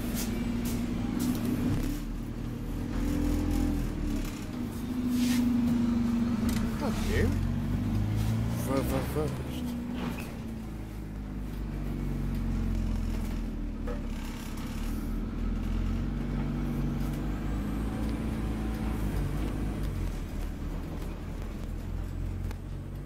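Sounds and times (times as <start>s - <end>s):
bus diesel engine drone: 0.0s - 23.0s.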